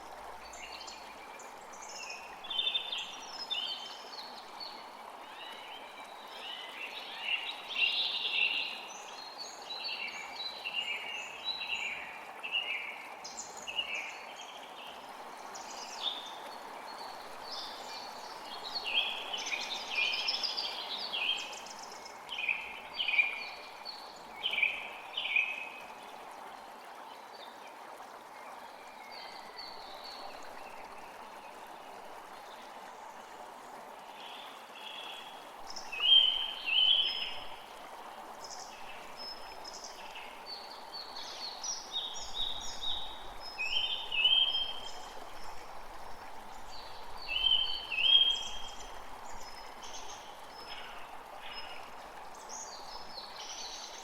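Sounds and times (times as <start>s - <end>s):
creek flowing: 0.0s - 54.0s.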